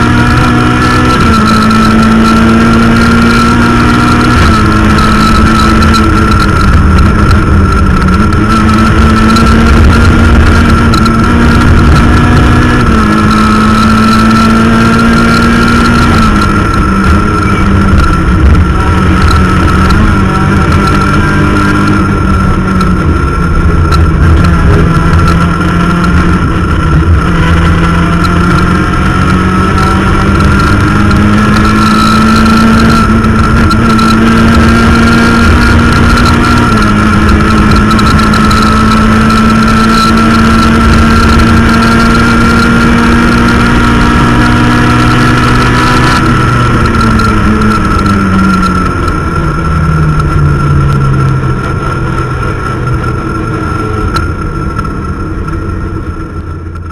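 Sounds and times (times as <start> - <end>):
rally car engine revving: 0.0 - 56.9
steady high whine: 0.0 - 56.9.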